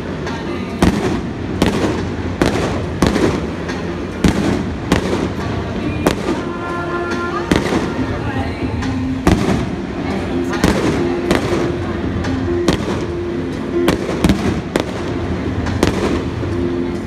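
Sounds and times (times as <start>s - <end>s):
fireworks bangs: 0.0s - 16.7s.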